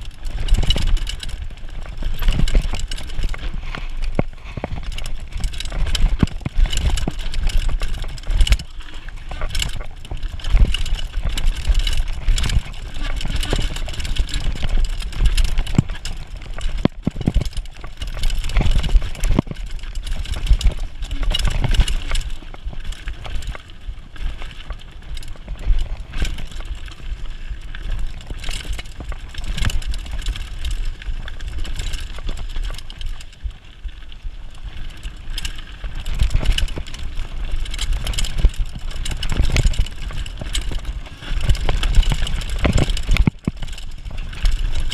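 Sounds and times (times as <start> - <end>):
bike knocking and rattling: 0.0 - 44.9
wind rumbling on microphone: 0.0 - 44.9.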